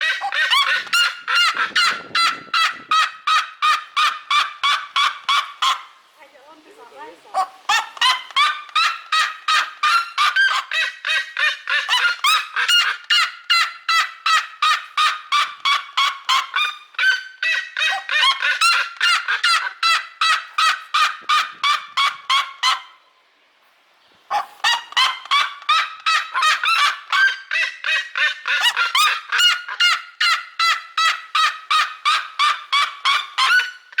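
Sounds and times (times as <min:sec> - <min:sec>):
bird yelping calls: 0:00.0 - 0:23.2, 0:24.1 - 0:34.0.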